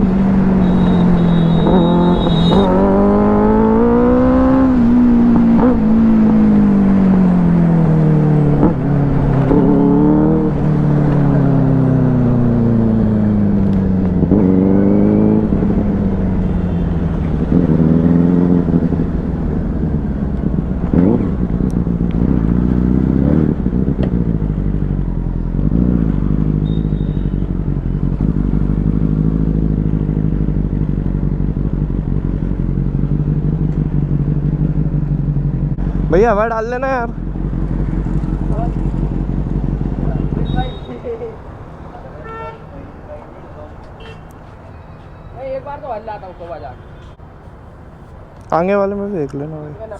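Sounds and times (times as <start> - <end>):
motorcycle engine revving and idling: 0.0 - 41.5.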